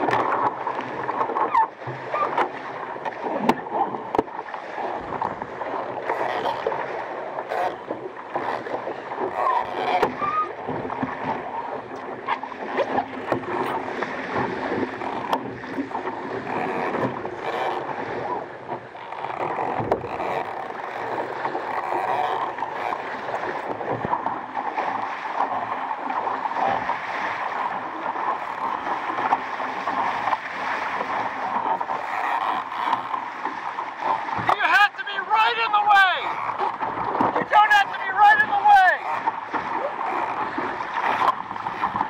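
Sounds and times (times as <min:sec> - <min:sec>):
water splashing along a hull: 0:00.0 - 0:42.0.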